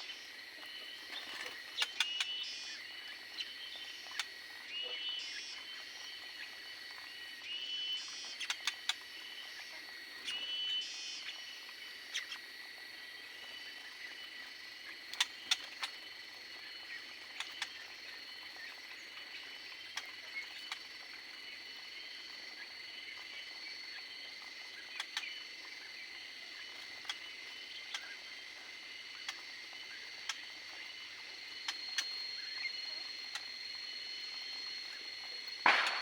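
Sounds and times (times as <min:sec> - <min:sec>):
small birds chirping: 0:00.0 - 0:11.5, 0:12.1 - 0:12.4, 0:13.3 - 0:36.0.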